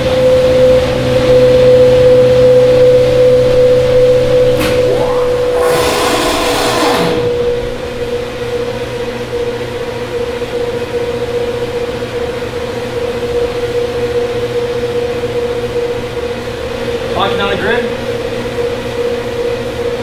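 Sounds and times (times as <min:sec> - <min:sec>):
turbine generator humming: 0:01.6 - 0:19.7.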